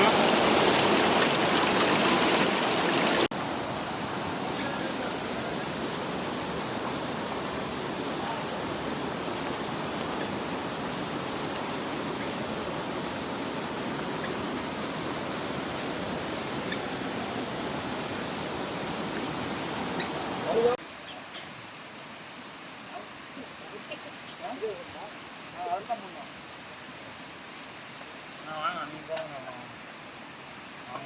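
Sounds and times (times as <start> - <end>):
water rushing at waterfall: 0.0 - 31.0.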